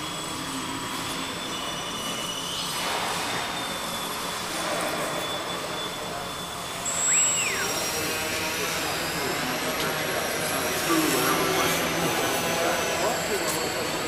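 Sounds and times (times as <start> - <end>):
rc aircraft motors whining: 0.0 - 14.0.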